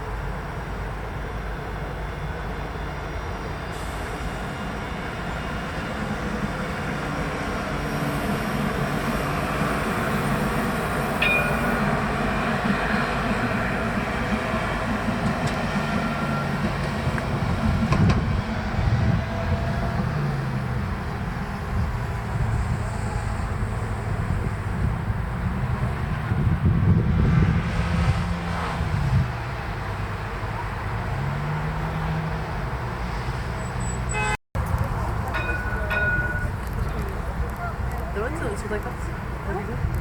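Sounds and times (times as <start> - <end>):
tram running on rails: 0.0 - 40.0.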